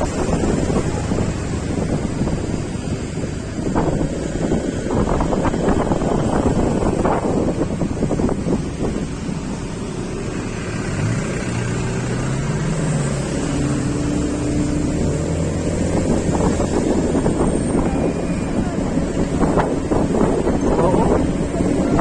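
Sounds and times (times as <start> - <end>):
road rumble: 0.0 - 22.0
vehicle engine tone: 0.0 - 22.0
wind buffeting microphone: 0.0 - 22.0.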